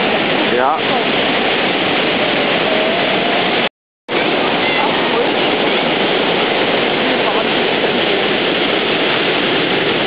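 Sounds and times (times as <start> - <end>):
water rushing over a weir: 0.0 - 10.0.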